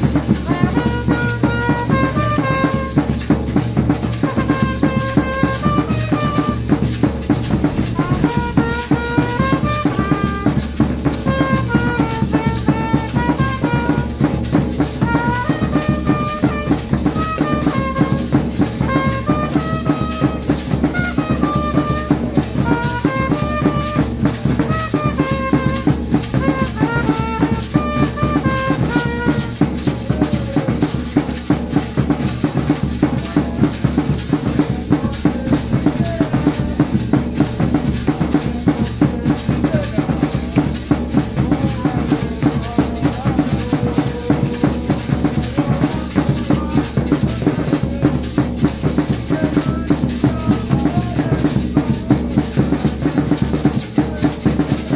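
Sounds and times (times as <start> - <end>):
brass instrument melody: 0.0 - 54.9
drums beaten with sticks: 0.0 - 54.9.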